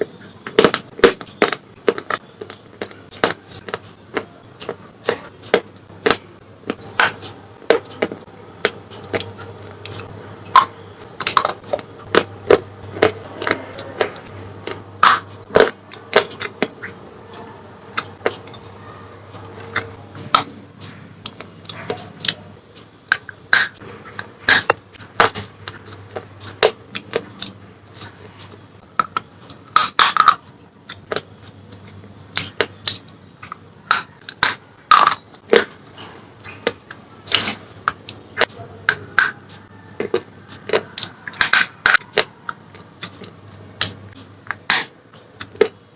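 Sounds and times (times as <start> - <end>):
crunching of chewed slate pencils: 0.2 - 45.9.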